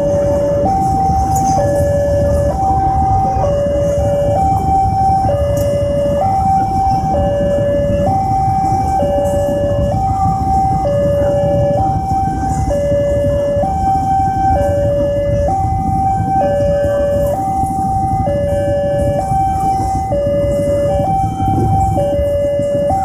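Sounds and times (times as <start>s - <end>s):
passing train rumble: 0.0s - 23.0s
two-tone level-crossing alarm: 0.0s - 23.0s.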